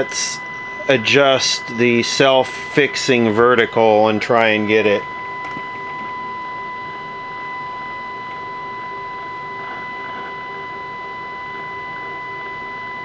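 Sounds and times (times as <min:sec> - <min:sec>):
high-pitched test tone: 0:00.0 - 0:13.0.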